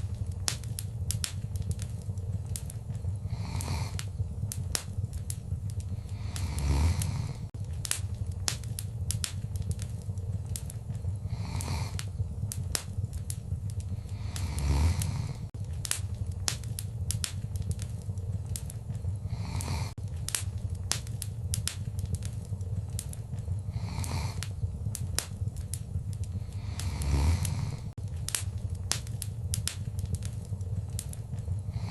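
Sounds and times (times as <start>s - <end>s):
low rumble: 0.0s - 31.9s
wood fire crackling and popping: 0.0s - 31.9s.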